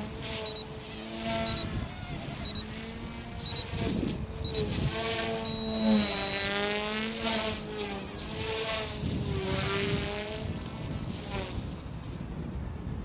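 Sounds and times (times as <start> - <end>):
rc helicopter buzzing whine: 0.0 - 13.0.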